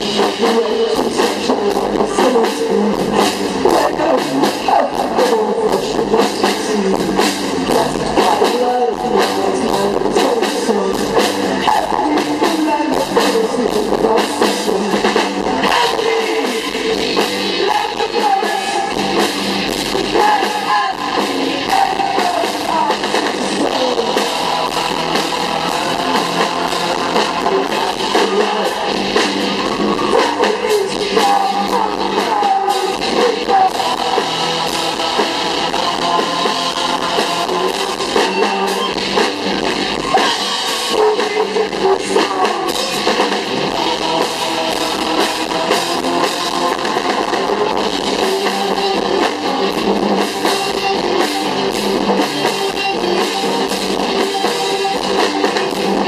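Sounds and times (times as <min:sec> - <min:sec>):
electric guitar: 0:00.0 - 0:56.0
person singing: 0:00.0 - 0:56.0
steady drum beat: 0:00.0 - 0:56.0.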